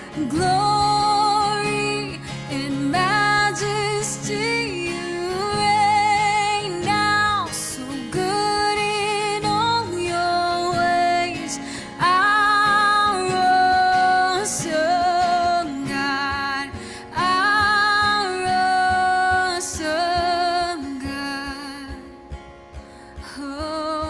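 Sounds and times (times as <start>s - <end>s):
woman singing with vibrato: 0.0s - 22.2s, 23.2s - 24.0s.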